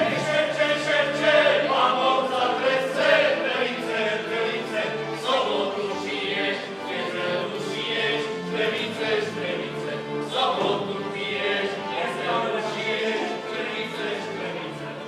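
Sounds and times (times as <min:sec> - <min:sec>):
choir singing folk song: 0:00.0 - 0:15.0
folk string band: 0:00.0 - 0:15.0.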